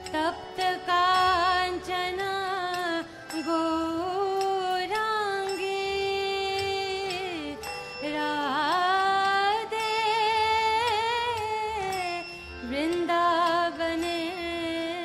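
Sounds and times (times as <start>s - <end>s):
harmonium drone: 0.0s - 15.0s
woman singing devotional melody: 0.0s - 15.0s.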